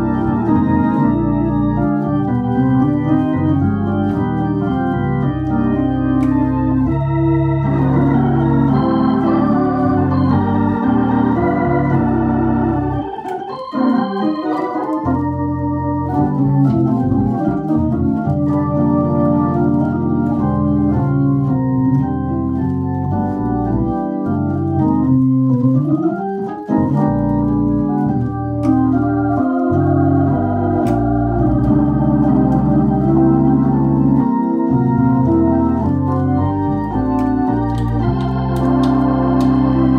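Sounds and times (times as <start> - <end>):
rising organ sweep: 0.0 - 25.0, 26.9 - 39.9
organ chords over bass line: 0.0 - 39.9.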